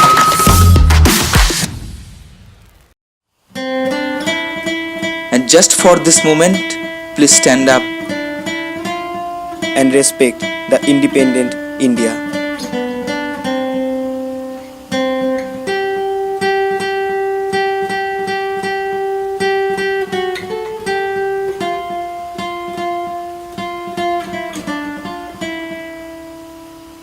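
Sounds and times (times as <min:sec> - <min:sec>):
acoustic guitar melody: 0:00.0 - 0:01.2, 0:03.5 - 0:27.0.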